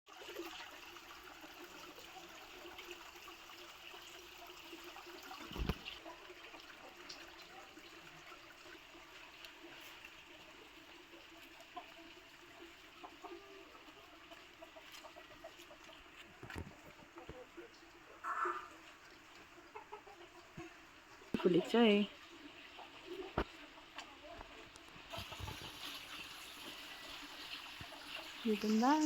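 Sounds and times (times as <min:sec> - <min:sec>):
faint outdoor background noise: 0:00.1 - 0:29.0.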